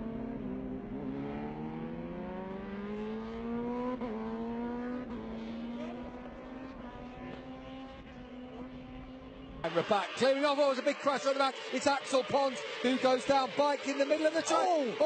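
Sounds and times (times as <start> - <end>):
racing motorcycle engine accelerating: 0.0 - 15.0.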